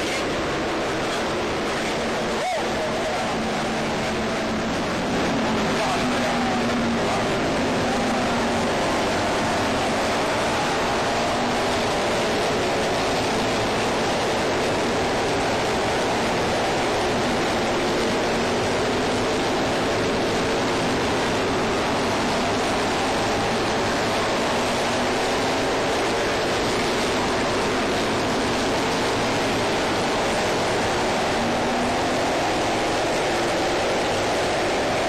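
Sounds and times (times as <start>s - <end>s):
racing motorcycle engines: 0.0s - 35.0s.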